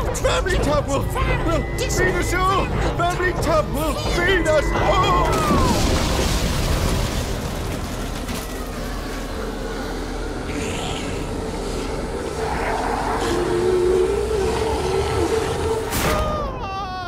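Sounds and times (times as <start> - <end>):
low rumbling drone: 0.3 - 16.4.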